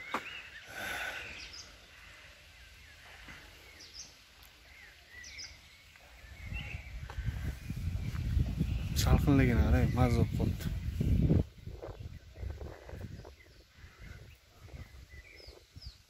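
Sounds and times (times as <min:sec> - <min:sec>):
faint outdoor background: 0:00.0 - 0:16.0
small birds chirping: 0:00.0 - 0:16.0.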